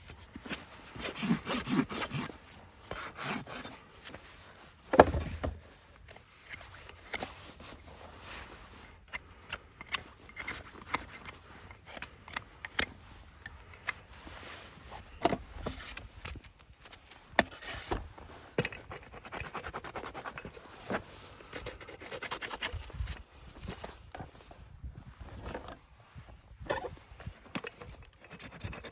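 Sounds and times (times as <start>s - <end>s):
hoof tools scraping: 0.0s - 28.9s.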